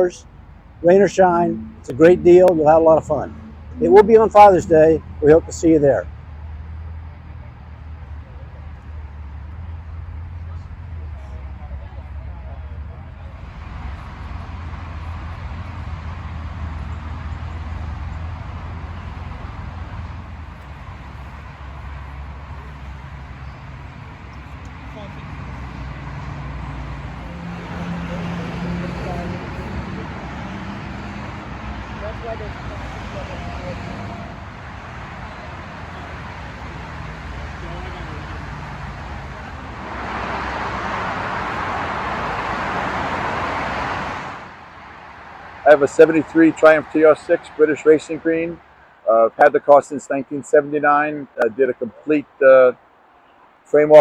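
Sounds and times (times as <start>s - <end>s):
vehicle engine running: 0.0s - 43.5s.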